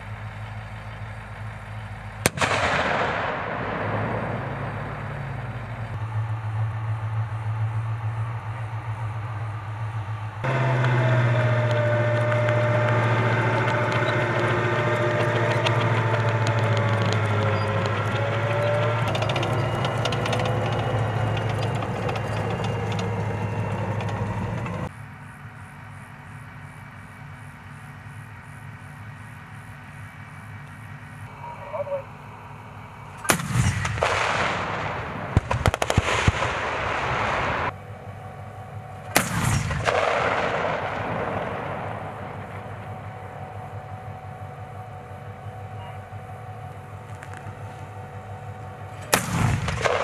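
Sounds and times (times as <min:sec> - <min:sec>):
diesel engine humming: 0:00.0 - 0:50.0
wavering engine whine: 0:00.0 - 0:50.0.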